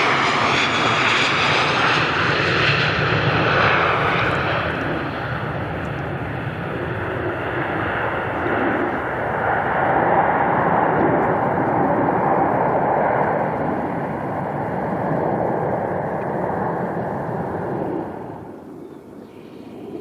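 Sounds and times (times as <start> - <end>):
airliner jet engines roaring: 0.0 - 20.0.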